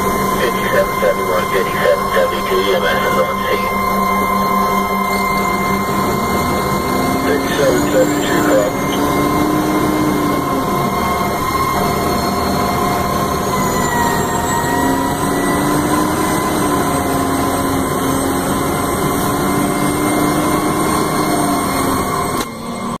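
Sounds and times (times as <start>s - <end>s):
fire engine whining: 0.0s - 23.0s
road noise: 0.0s - 23.0s.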